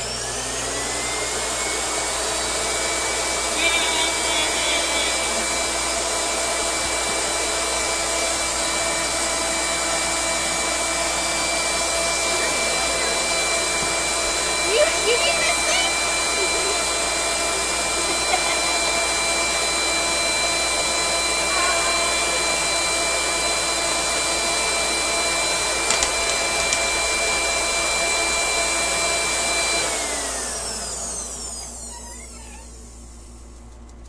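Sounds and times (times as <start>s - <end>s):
blender motor whining: 0.0s - 33.5s.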